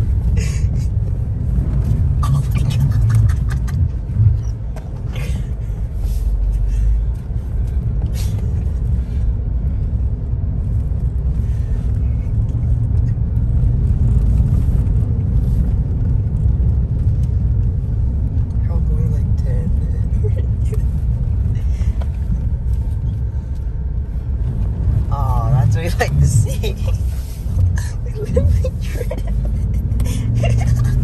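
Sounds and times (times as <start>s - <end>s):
vehicle rumble on dirt trail: 0.0s - 31.0s.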